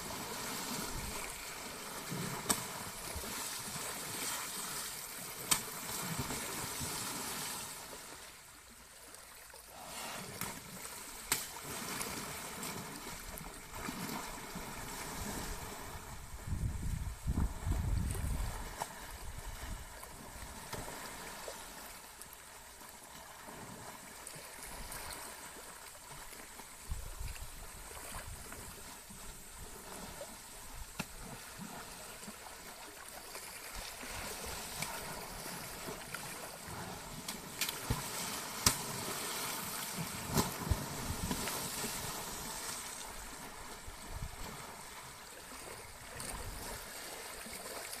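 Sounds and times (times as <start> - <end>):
water sloshing and splashing: 0.0 - 48.0.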